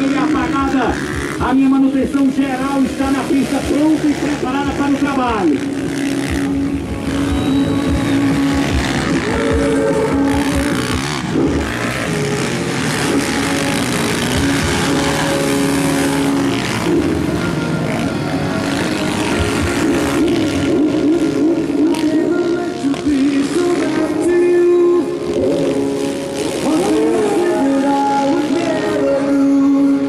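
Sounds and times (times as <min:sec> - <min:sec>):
engines running and revving: 0:00.0 - 0:30.0
loud background noise: 0:00.0 - 0:30.0.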